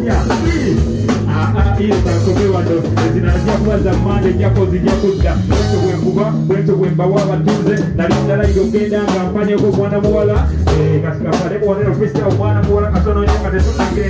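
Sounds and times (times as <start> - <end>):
bass line: 0.0 - 14.0
drum kit hits: 0.0 - 14.0
live band playing: 0.0 - 14.0
person singing: 0.0 - 14.0.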